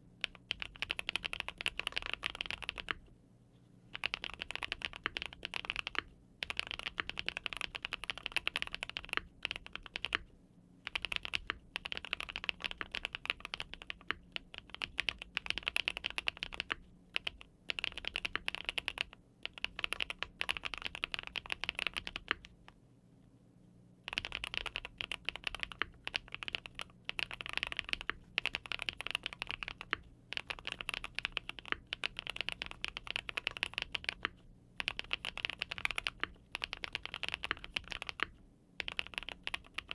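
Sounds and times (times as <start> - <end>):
mechanical keyboard typing: 0.2 - 3.0, 3.9 - 22.6, 24.1 - 39.9.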